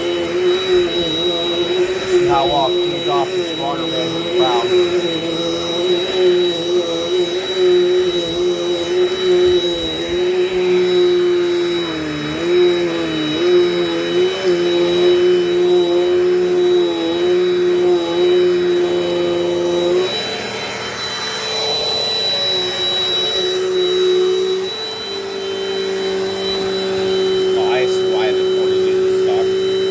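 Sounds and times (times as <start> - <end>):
vacuum cleaner droning whine: 0.0 - 29.9.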